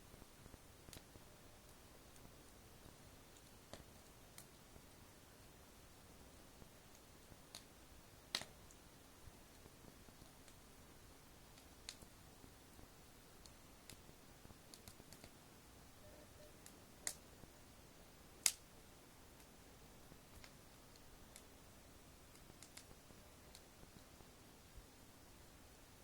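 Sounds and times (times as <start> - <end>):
wood fire crackling: 0.0 - 26.0
fire popping: 0.1 - 15.9, 16.5 - 24.3.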